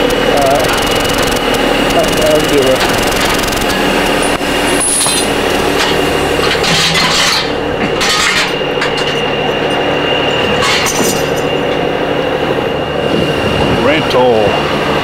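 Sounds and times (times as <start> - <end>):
diesel truck engine idling: 0.0 - 15.0
high whine: 0.0 - 15.0.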